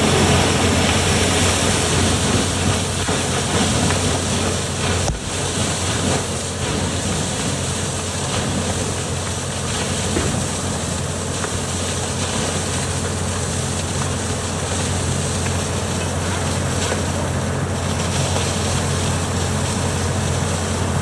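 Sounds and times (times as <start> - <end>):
heavy machine engine humming: 0.0 - 21.0.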